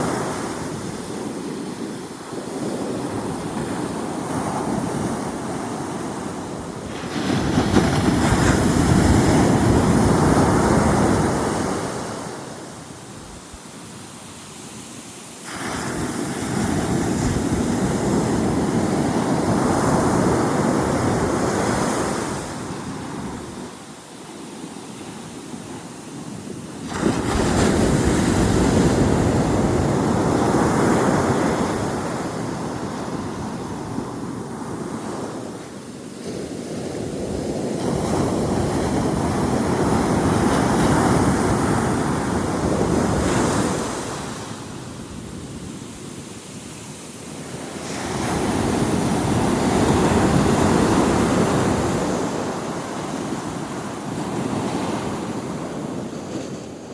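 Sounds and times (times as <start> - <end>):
ocean waves crashing on beach: 0.0 - 56.9.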